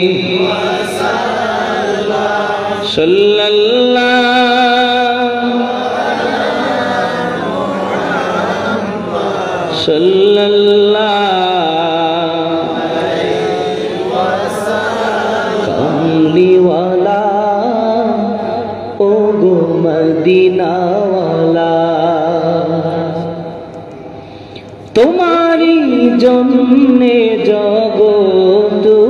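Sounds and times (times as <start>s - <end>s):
man chanting through loudspeakers: 0.0s - 29.0s.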